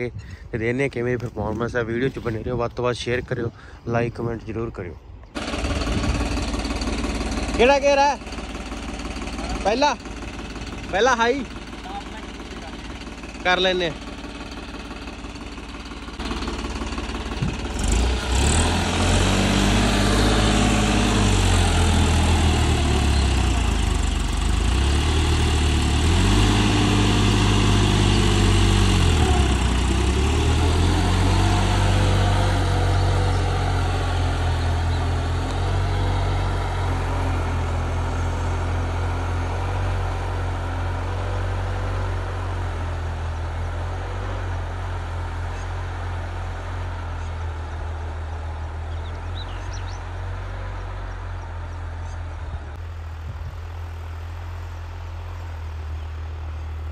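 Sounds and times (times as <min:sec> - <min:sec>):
tractor diesel engine revving: 0:05.3 - 0:56.9.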